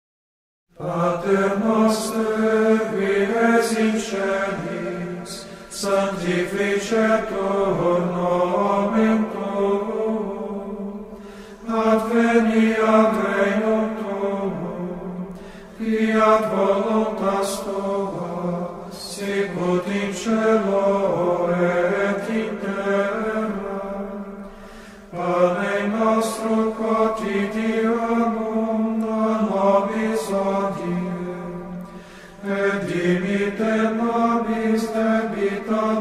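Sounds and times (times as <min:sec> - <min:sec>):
slow hymn singing: 0:00.7 - 0:36.0.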